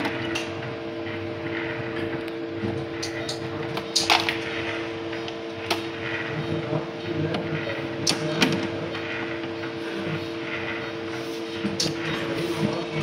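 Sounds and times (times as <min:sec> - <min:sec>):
steady equipment hum: 0:00.0 - 0:13.0.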